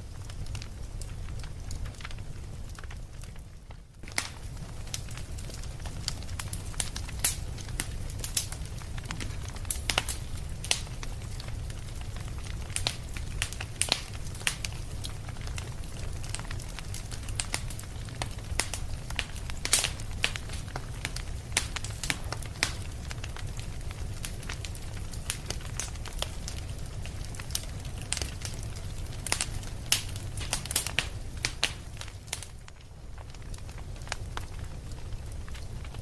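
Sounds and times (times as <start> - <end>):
low fire rumble: 0.0 - 36.0
wood fire crackling: 0.0 - 36.0.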